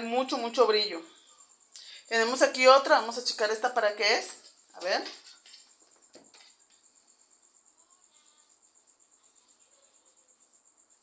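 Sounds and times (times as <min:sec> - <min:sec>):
faint high-pitched pulsed chirping: 0:00.0 - 0:11.0.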